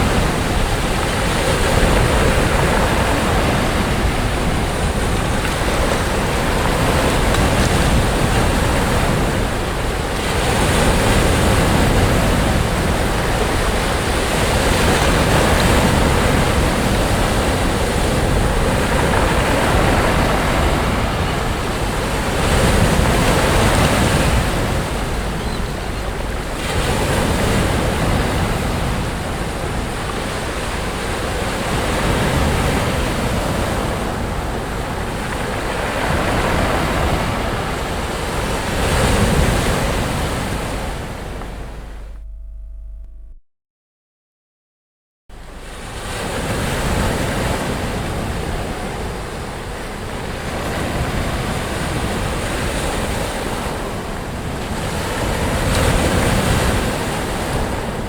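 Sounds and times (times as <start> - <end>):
sea waves breaking on a beach: 0.0 - 42.2, 45.4 - 58.0.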